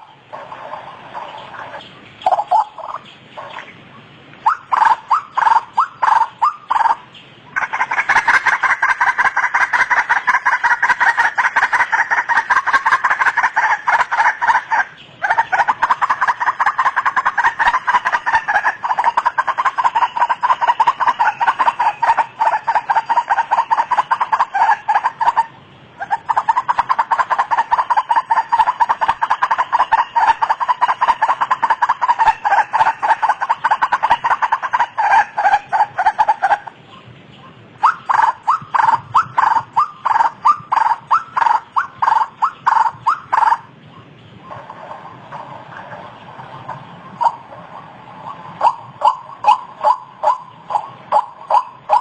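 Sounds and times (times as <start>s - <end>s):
waterhen harsh calls: 0.0s - 3.7s, 4.4s - 52.0s.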